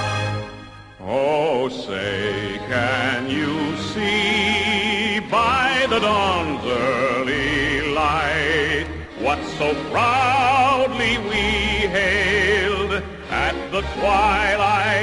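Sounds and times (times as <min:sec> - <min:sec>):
musical accompaniment: 0:00.0 - 0:15.0
person singing with vibrato: 0:00.0 - 0:15.0.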